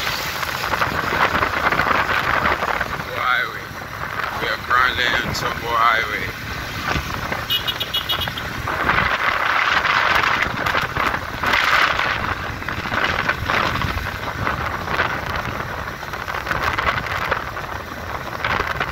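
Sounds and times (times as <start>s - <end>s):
motorcycle road and engine noise: 0.0s - 18.9s
wind buffeting microphone: 0.0s - 18.9s.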